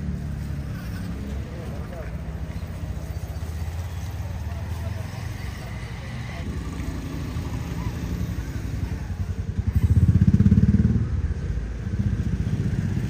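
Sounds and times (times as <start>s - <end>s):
motorbike engine passing: 0.0s - 13.0s.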